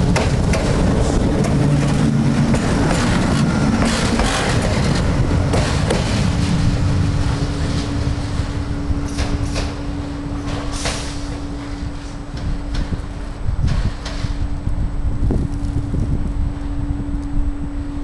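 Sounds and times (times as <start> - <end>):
electric locomotive rumbling past: 0.0 - 18.0.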